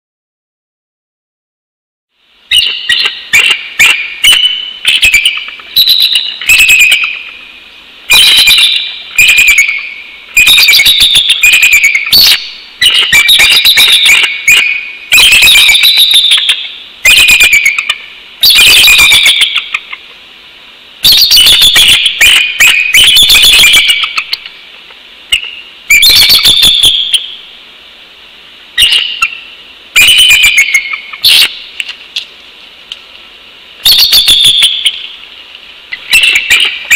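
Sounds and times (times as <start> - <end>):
eagle chittering calls: 2.5 - 20.1, 21.0 - 24.7, 25.3 - 27.5, 28.7 - 31.8, 33.8 - 36.9.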